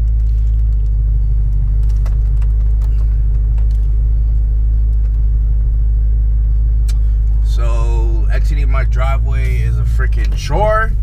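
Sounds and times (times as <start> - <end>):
deep exhaust rumble: 0.0 - 11.0.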